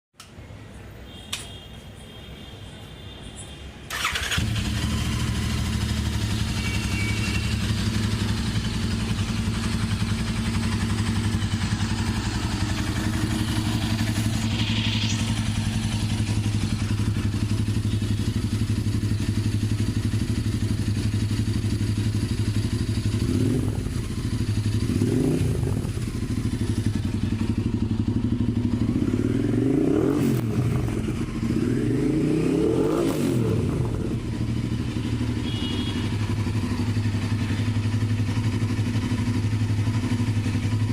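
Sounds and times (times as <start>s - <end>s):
motorcycle engine idling and revving: 3.9s - 40.9s.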